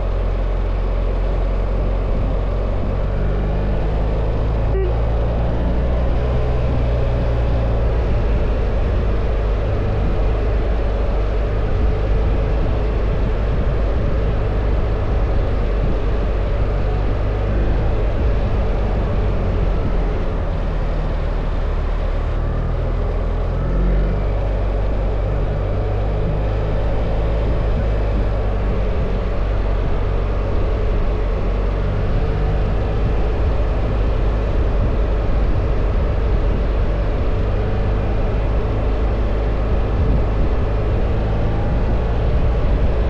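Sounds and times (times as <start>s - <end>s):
wind rush on microphone: 0.0s - 43.0s.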